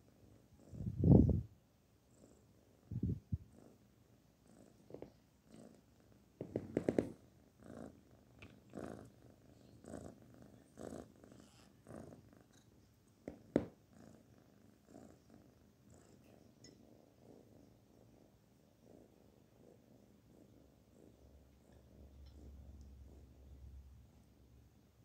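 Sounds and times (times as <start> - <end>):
kitten purring: 0.0 - 24.4.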